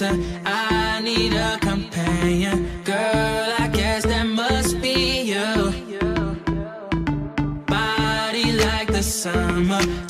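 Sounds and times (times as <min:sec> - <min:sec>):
r and b pop song: 0:00.0 - 0:10.0.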